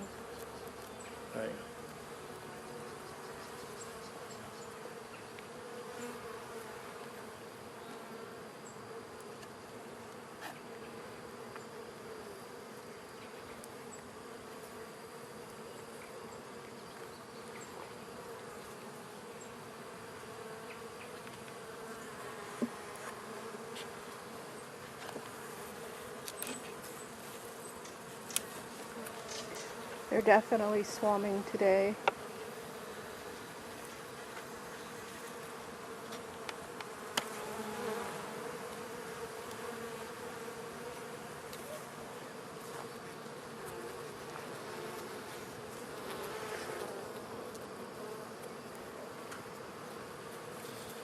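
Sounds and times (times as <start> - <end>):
bees buzzing: 0.0 - 51.0.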